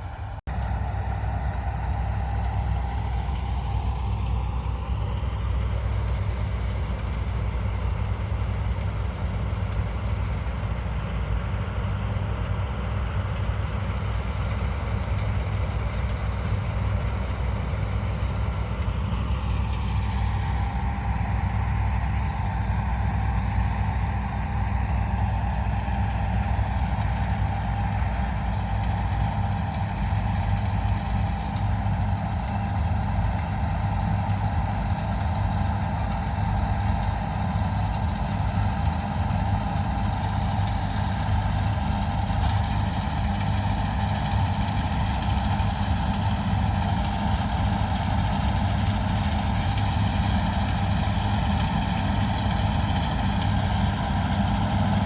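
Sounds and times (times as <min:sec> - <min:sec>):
diesel engine running steadily: 0:00.0 - 0:55.0
steady whine: 0:00.0 - 0:55.0.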